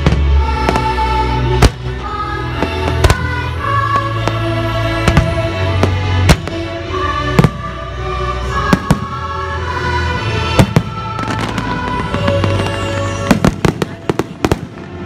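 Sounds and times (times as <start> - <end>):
fireworks bursting with sharp bangs: 0.0 - 8.0, 8.6 - 9.4, 10.2 - 15.0
music: 0.0 - 15.0.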